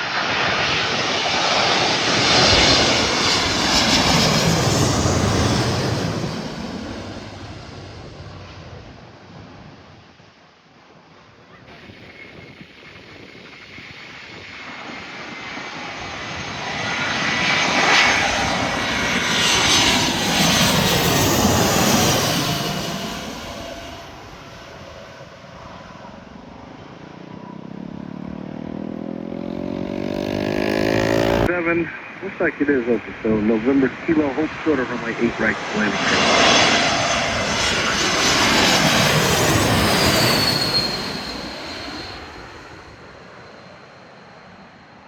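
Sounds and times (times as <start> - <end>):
another jet engine: 0.0 - 10.2, 11.0 - 45.0
jet engines passing: 0.0 - 45.0.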